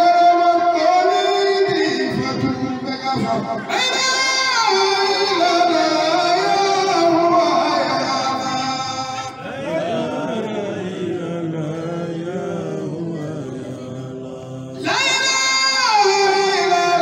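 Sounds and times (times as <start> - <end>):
person chanting: 0.0 - 17.0.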